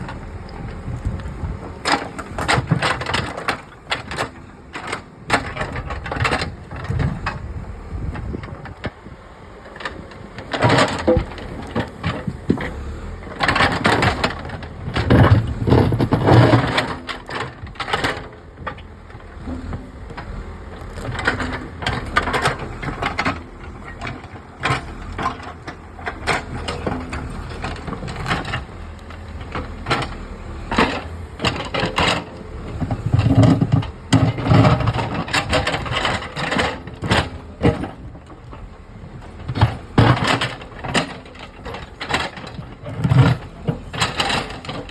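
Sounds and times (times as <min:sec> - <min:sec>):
digger clanks and knocks: 0:00.0 - 0:44.9
low engine rumble: 0:00.0 - 0:44.9.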